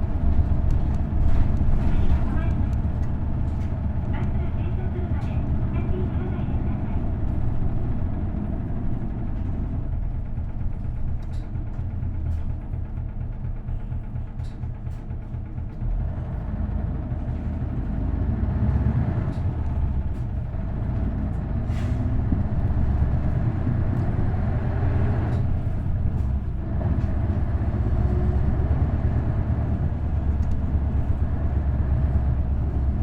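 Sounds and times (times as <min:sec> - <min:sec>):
bus diesel engine drone: 0:00.0 - 0:33.0.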